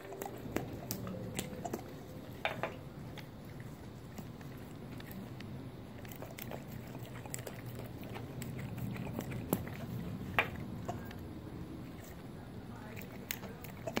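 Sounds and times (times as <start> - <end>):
dog licking and lapping: 0.0 - 14.0.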